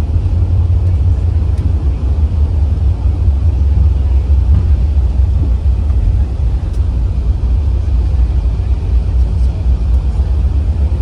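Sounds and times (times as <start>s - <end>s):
airliner cabin rumble on runway: 0.0s - 11.0s.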